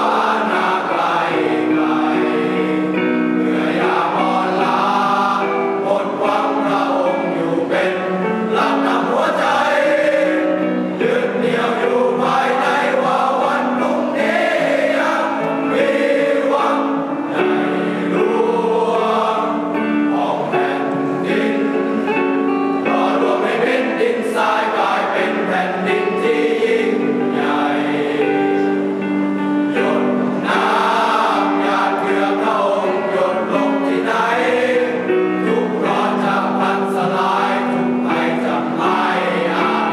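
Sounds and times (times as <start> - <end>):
choir singing held chords: 0.0 - 39.9.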